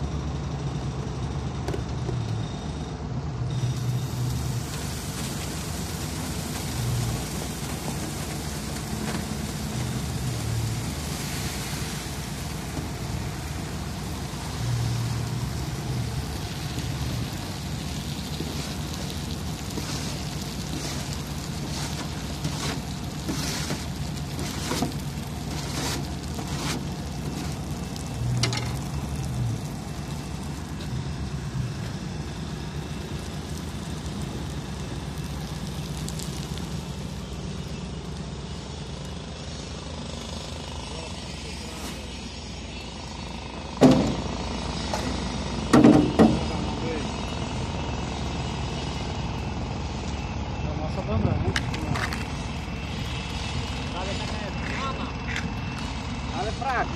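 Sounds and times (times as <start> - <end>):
asphalt mixer running: 0.0 - 56.9
asphalt scraping down steel chute: 0.0 - 56.9.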